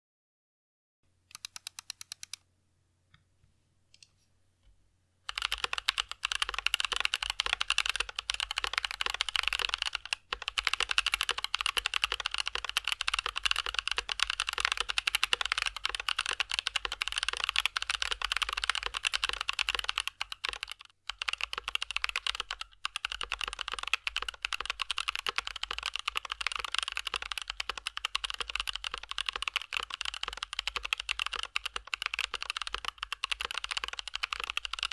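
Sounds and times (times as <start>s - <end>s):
mechanical keyboard typing: 1.3s - 2.4s, 5.3s - 34.9s.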